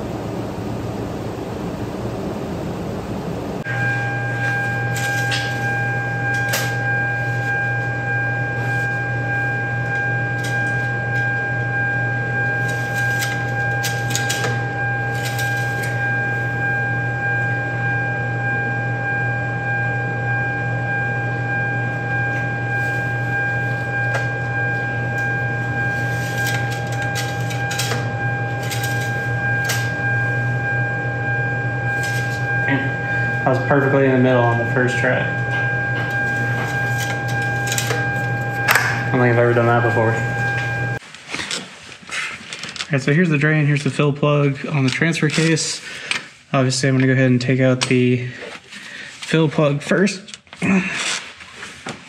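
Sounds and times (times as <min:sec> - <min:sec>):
steady hum with high whine: 0:00.0 - 0:52.0.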